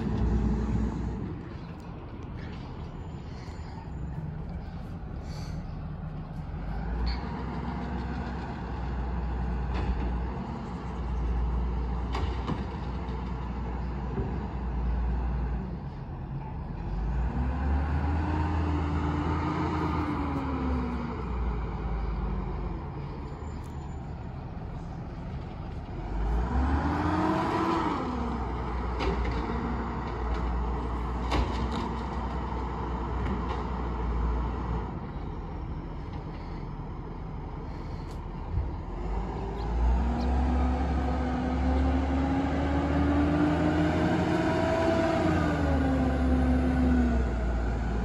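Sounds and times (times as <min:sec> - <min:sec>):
truck engine revving: 0:00.0 - 0:15.6, 0:16.8 - 0:48.0.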